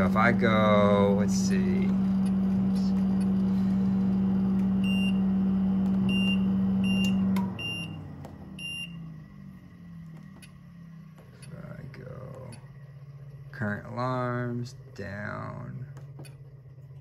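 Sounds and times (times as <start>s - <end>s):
water heater humming: 0.0s - 17.0s.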